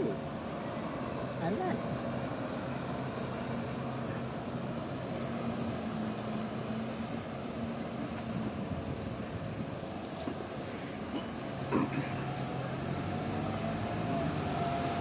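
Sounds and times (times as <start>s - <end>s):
city street traffic: 0.0s - 15.0s
low engine hum: 0.0s - 15.0s.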